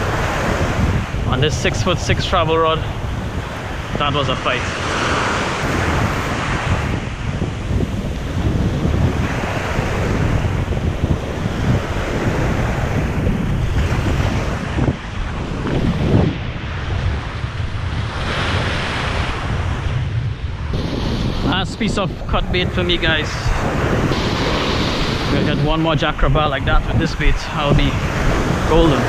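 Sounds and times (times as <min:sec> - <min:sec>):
surf washing up beach: 0:00.0 - 0:29.0
wind buffeting microphone: 0:00.0 - 0:29.0.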